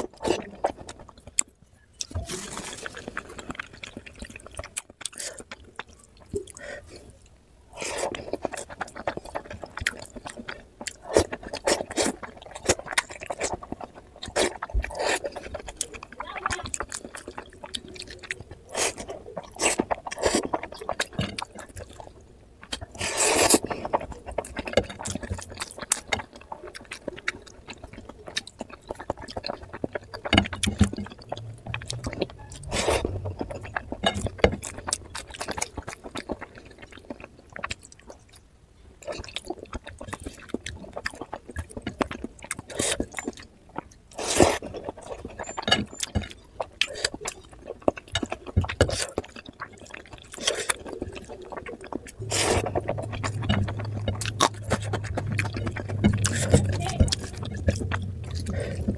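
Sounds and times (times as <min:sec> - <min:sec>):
wet chewing: 0:00.0 - 0:58.9.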